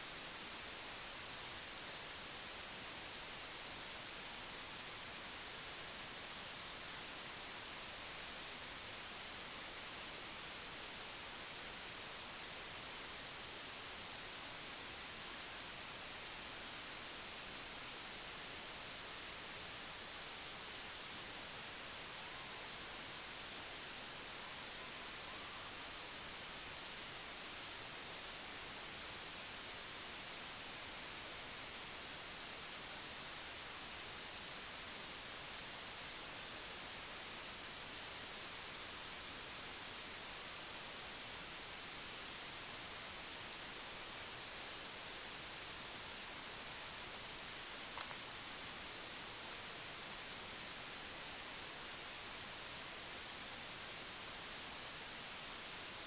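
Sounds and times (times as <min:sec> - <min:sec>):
steady static hiss: 0:00.0 - 0:56.0.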